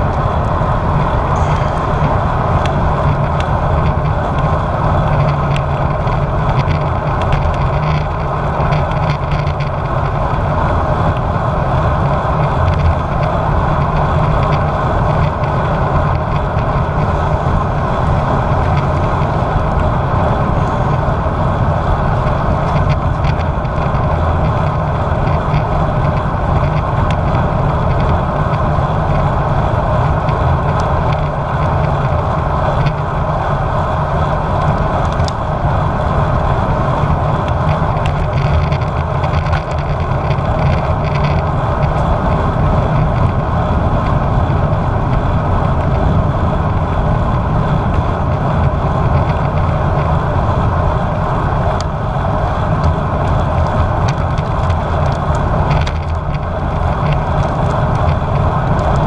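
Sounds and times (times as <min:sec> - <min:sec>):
tyre and road noise: 0:00.0 - 0:59.0
wind rushing over microphone: 0:00.0 - 0:59.0.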